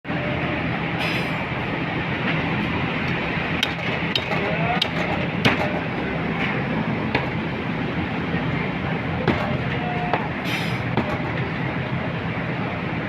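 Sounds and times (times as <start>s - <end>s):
steady background hum: 0.1s - 13.0s.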